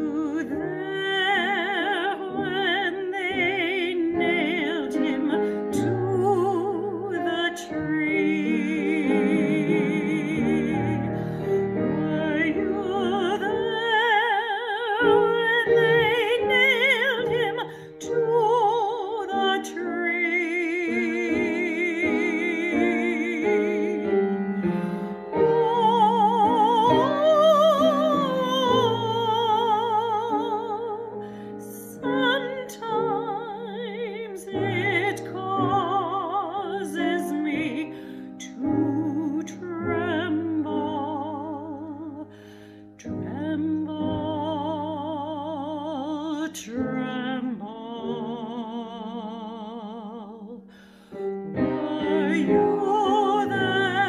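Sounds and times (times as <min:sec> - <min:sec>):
woman singing operatic hymn: 0:00.0 - 0:42.3, 0:43.0 - 0:50.7, 0:51.4 - 0:54.0
piano accompaniment: 0:00.0 - 0:54.0.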